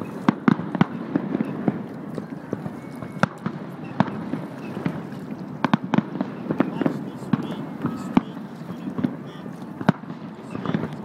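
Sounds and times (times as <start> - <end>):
distant fireworks bangs: 0.0 - 11.0
steady background noise: 0.0 - 11.0.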